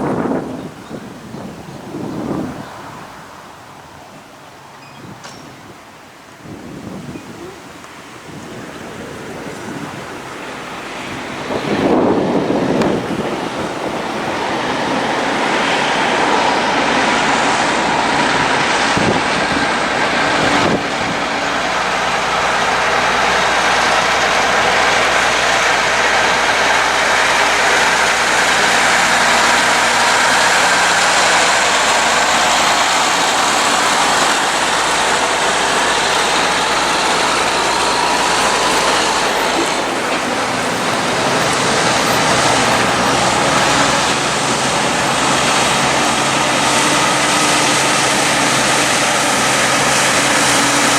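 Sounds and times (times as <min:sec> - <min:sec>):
diesel truck engines droning: 0:00.0 - 0:50.9
wind buffeting microphone: 0:00.0 - 0:50.9.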